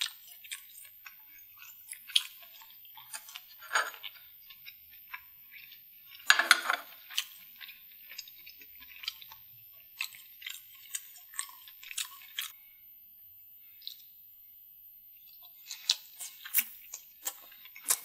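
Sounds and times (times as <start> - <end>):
wet chewing and slurping: 0.0 - 12.6, 15.3 - 18.0.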